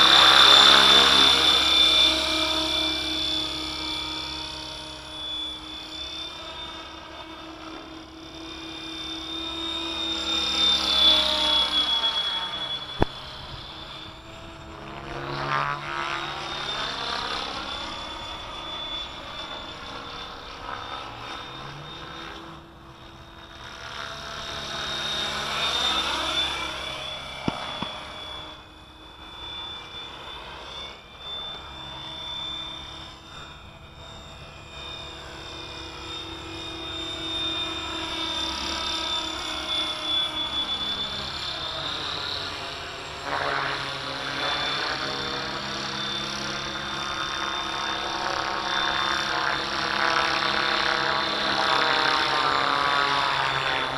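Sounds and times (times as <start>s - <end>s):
model helicopter whine and rotor: 0.0s - 53.9s.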